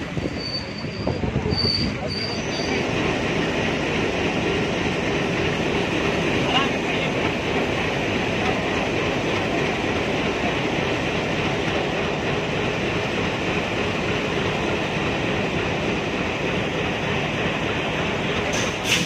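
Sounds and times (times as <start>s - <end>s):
diesel locomotive engine idling: 0.0s - 19.0s.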